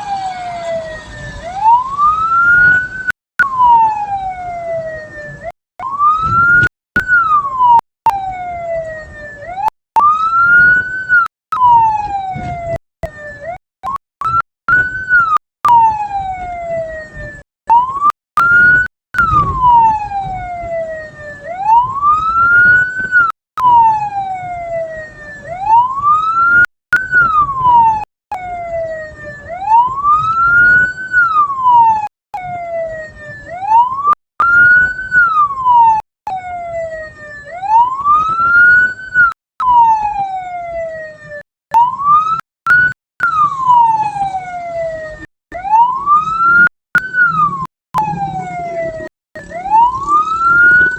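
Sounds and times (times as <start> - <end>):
vehicle siren wailing: 0.0 - 50.9.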